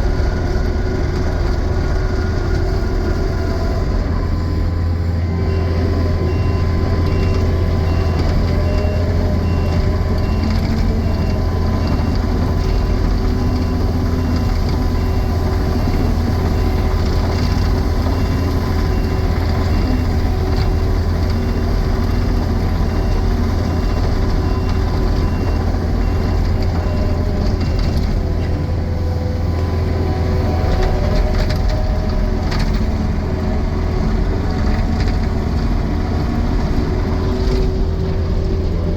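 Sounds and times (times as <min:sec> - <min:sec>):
diesel engine running: 0:00.0 - 0:38.9
reversing alarm beeping: 0:02.0 - 0:33.4.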